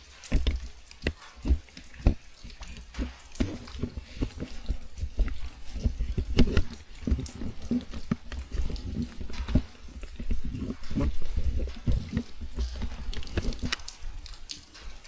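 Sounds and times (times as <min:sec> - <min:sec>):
faint rain patter: 0:00.0 - 0:15.0
low thumps: 0:00.2 - 0:14.3.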